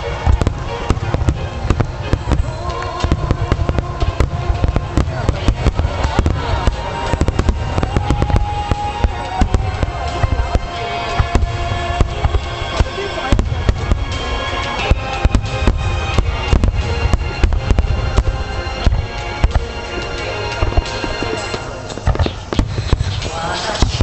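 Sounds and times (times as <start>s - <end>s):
fireworks bursting and crackling: 0.0s - 24.0s
music playing: 0.0s - 24.0s.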